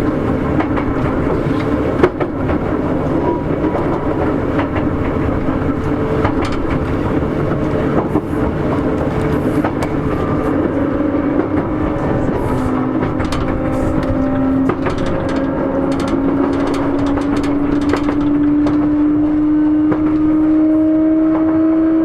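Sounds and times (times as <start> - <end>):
wheels clicking over rail joints: 0.0 - 21.6
traction motor hum: 0.0 - 22.0
train wheels rumbling on rail: 0.0 - 22.0.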